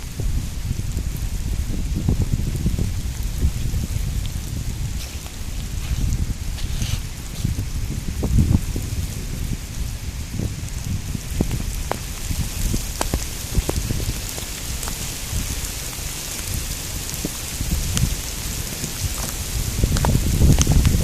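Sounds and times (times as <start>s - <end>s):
raindrops tapping: 0.0s - 9.8s, 10.5s - 21.0s
steady rain hiss: 0.0s - 21.0s.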